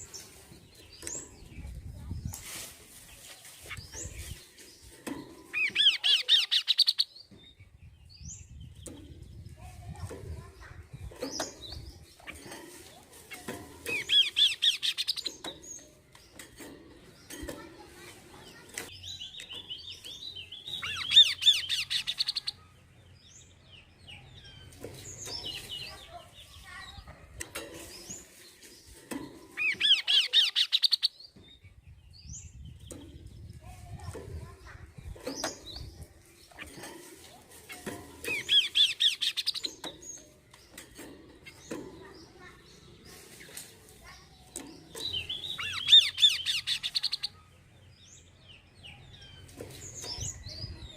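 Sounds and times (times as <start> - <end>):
bird singing: 3.6 - 9.6, 10.5 - 33.6, 37.7 - 50.9.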